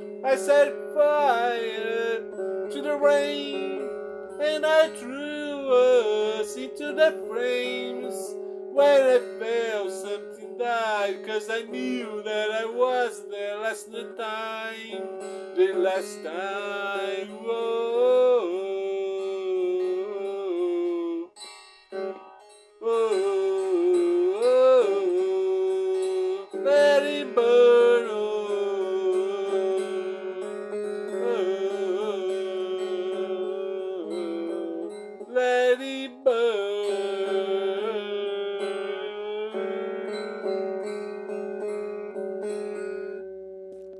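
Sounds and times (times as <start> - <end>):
wordless singing: 0.0 - 21.4, 22.8 - 41.5
acoustic guitar: 0.0 - 43.9.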